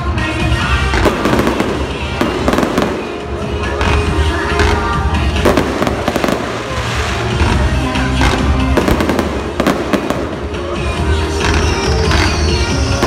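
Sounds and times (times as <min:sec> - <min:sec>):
fireworks bangs and crackles: 0:00.0 - 0:13.0
loud music: 0:00.0 - 0:13.0.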